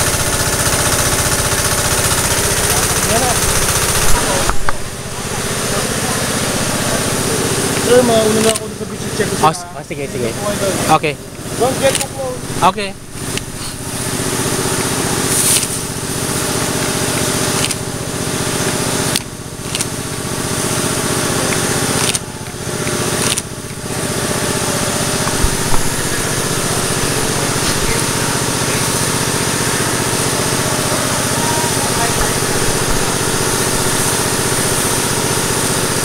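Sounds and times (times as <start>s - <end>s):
small engine running: 0.0s - 36.0s.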